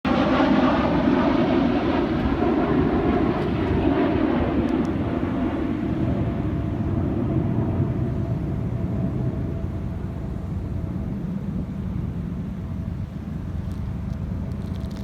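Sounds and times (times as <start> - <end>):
fighter jet engine roaring: 0.1 - 15.0.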